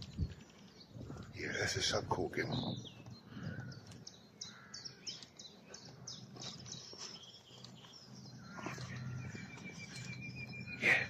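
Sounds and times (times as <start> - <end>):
nightingale singing: 0.0 - 11.0.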